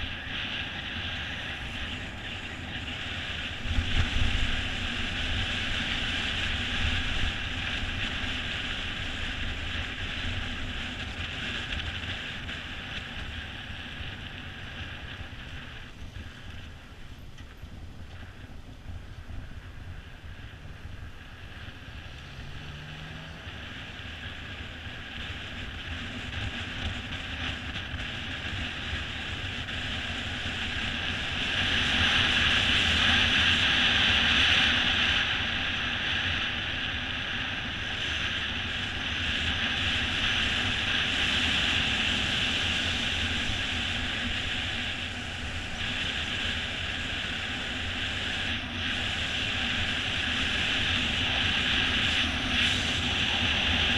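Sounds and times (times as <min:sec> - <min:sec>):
tyres rumbling on asphalt: 0:00.0 - 0:53.9
wind rushing over camera: 0:00.0 - 0:53.9.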